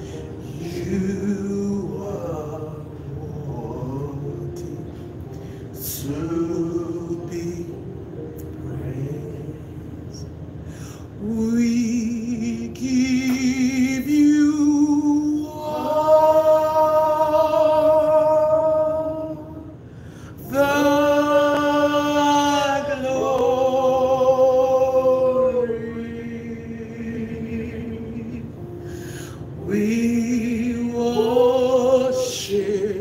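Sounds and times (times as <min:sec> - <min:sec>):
slow worship singing with vibrato: 0:00.0 - 0:33.0.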